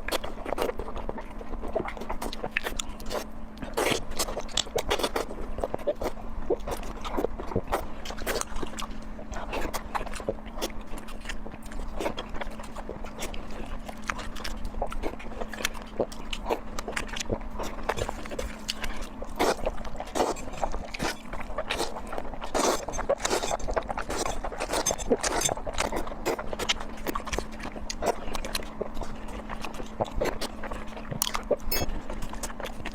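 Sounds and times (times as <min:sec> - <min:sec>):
chewing and mouth sounds: 0:00.0 - 0:32.9
steady low hum: 0:00.0 - 0:32.9.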